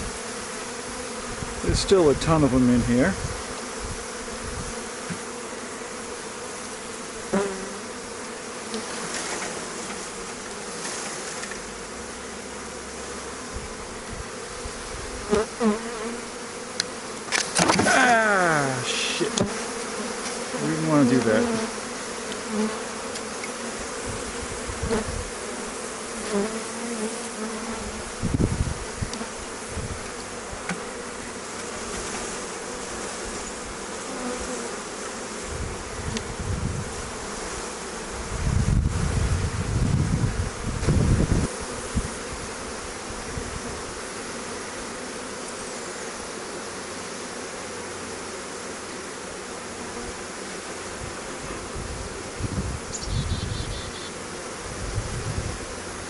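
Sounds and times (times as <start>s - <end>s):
bees buzzing: 0.0s - 56.0s
single bee buzzing close by: 0.0s - 56.0s.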